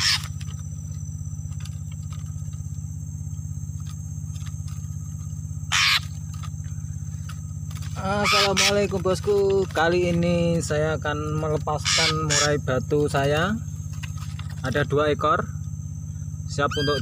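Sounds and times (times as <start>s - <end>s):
faint insect buzzing: 0.0s - 17.0s
small engine idling: 0.0s - 17.0s.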